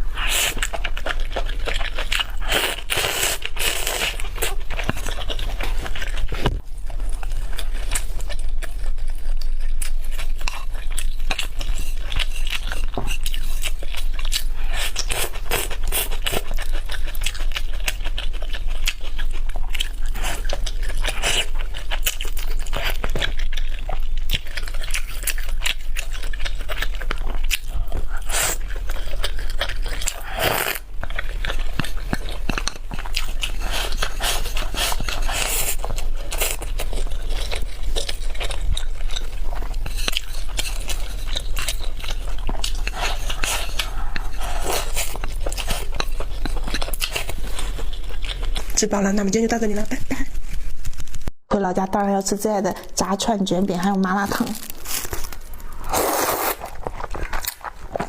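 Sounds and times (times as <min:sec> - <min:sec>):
person chewing food: 0:00.0 - 0:48.8, 0:54.4 - 0:58.0.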